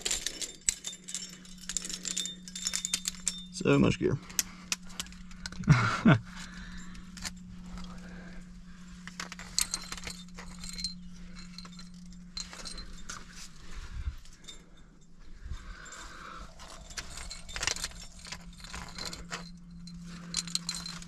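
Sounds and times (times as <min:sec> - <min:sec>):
carabiners clinking on harness: 0:00.0 - 0:21.0.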